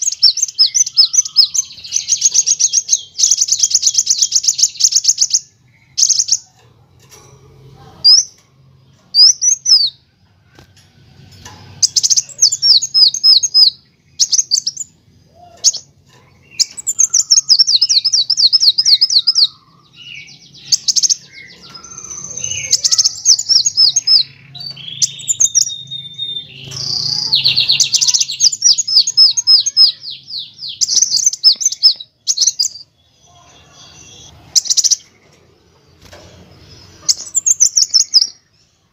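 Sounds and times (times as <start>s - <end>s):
sunbird trilling song: 0.0s - 6.5s, 8.0s - 10.0s, 11.7s - 38.9s
sharp bird chips: 0.0s - 6.6s, 8.0s - 10.0s, 11.6s - 35.3s, 36.0s - 38.4s.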